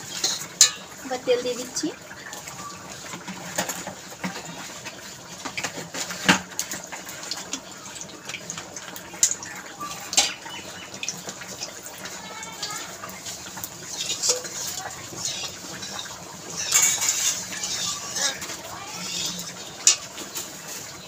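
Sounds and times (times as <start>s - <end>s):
oil hissing and crackling: 0.0s - 21.0s.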